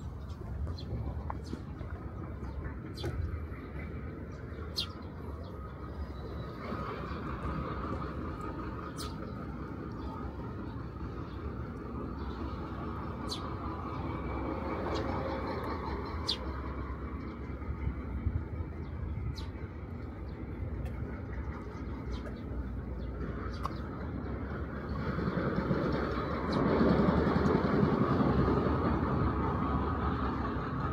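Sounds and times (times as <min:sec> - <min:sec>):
distant traffic rumble: 0:00.0 - 0:30.9
vehicle approaching: 0:00.0 - 0:30.9.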